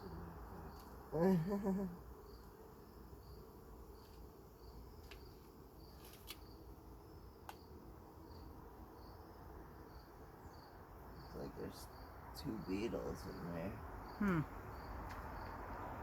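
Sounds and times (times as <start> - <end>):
cricket chirping: 0.0 - 16.0
honeybees humming: 0.0 - 16.0.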